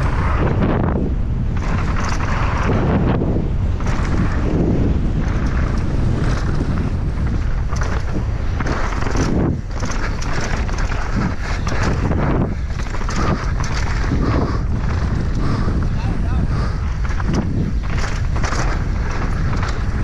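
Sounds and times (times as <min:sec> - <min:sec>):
bike rattling and knocking: 0:00.0 - 0:20.0
low rumble: 0:00.0 - 0:20.0
wind rushing over microphone: 0:00.0 - 0:20.0.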